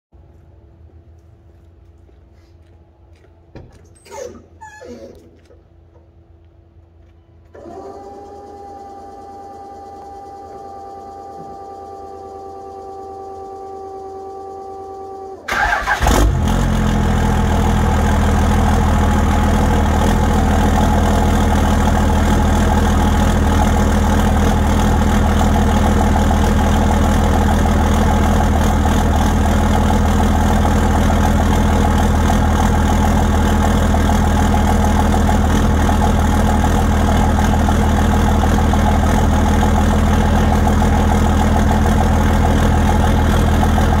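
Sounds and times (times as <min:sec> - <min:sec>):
diesel engine idling: 0:05.8 - 0:44.0
diesel engine cranking and starting: 0:07.4 - 0:44.0.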